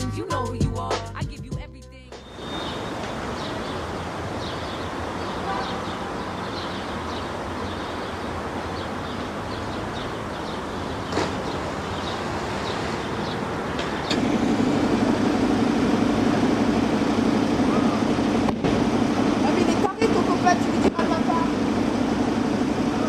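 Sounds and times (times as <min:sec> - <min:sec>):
city bus: 0:00.0 - 0:23.0
traffic noise: 0:02.1 - 0:23.0
train running: 0:02.4 - 0:23.0.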